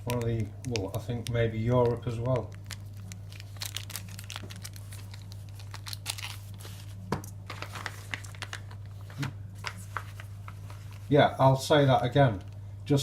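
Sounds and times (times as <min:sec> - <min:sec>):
crinkling and clicking of handled items: 0:00.0 - 0:11.2
low electrical hum: 0:00.0 - 0:13.0.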